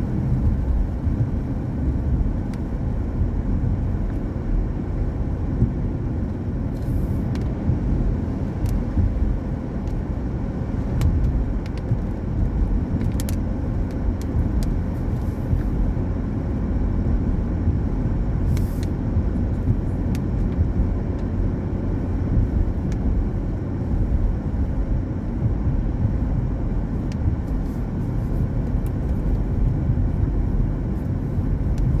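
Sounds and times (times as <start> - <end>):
tyres rumbling on wet road: 0.0 - 32.0.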